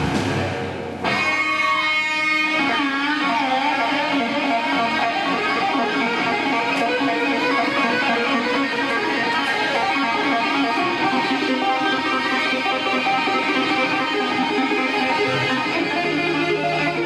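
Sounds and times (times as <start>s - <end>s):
overdriven electric guitar solo: 0.0s - 17.0s.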